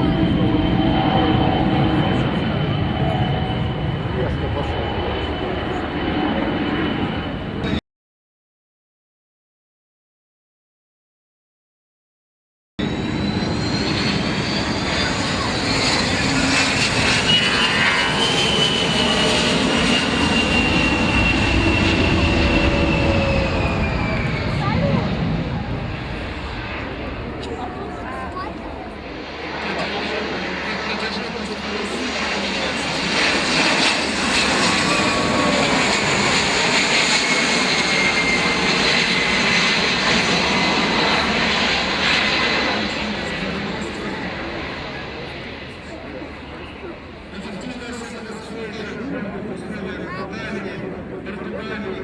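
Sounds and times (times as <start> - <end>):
aircraft engines roaring: 0.0 - 7.8, 12.8 - 52.0.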